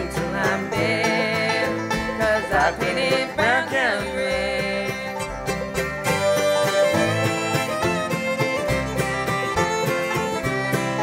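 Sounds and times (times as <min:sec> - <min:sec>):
bluegrass band playing: 0:00.0 - 0:11.0.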